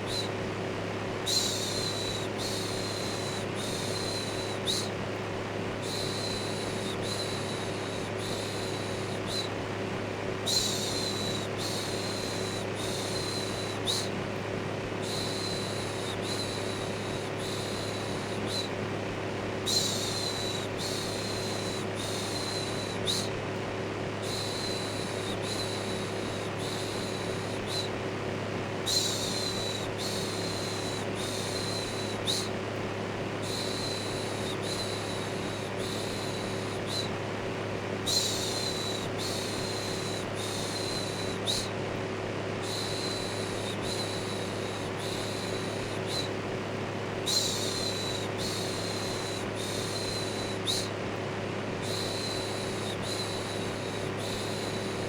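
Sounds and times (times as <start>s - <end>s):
electric fan whirring: 0.0s - 55.0s.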